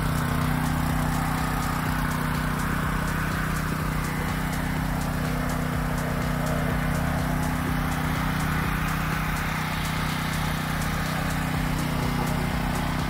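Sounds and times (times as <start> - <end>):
generator engine droning: 0.0 - 13.0.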